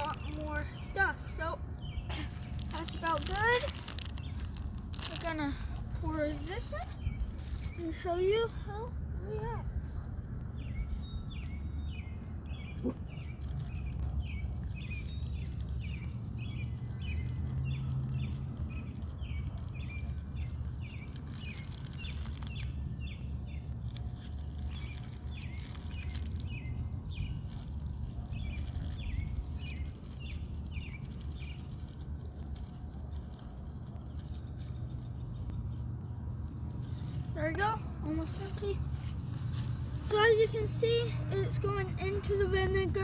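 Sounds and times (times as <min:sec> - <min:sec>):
small bird chirping: 0:00.0 - 0:43.0
steady low rumble: 0:00.0 - 0:43.0.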